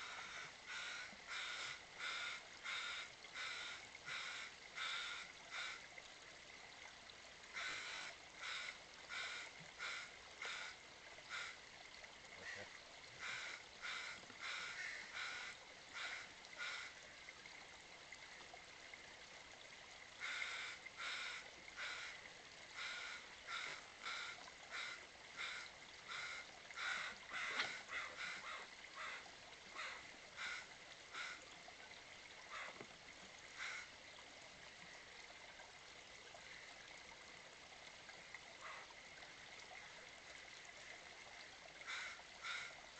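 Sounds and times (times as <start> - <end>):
creek trickling: 0.0 - 42.9.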